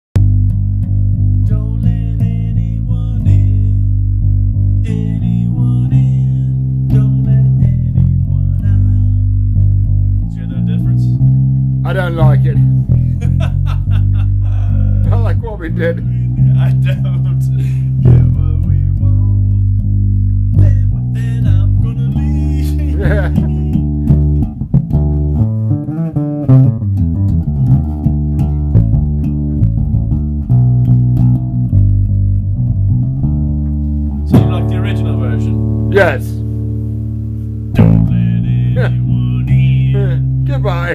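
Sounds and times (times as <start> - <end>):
electric bass played fingerstyle: 0.1 - 40.9.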